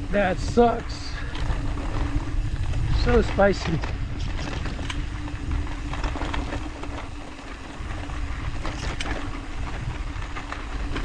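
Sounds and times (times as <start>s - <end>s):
bike rattles and clicks: 0.0s - 11.0s
bike tyres rumbling over rock: 0.0s - 11.0s
wind buffeting: 0.0s - 11.0s.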